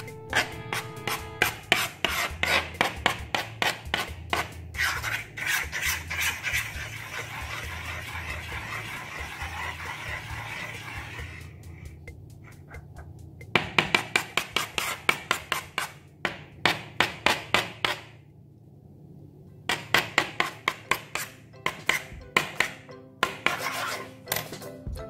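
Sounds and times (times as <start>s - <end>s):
music: 0.0s - 15.7s, 19.6s - 25.0s.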